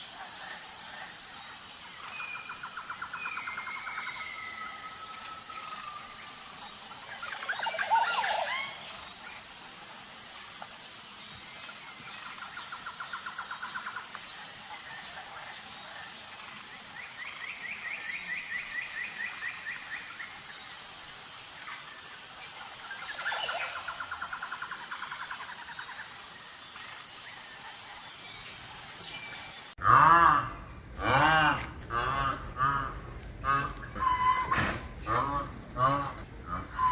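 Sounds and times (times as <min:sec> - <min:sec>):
birds chirping: 0:00.0 - 0:29.8
insect chirring: 0:00.0 - 0:29.8.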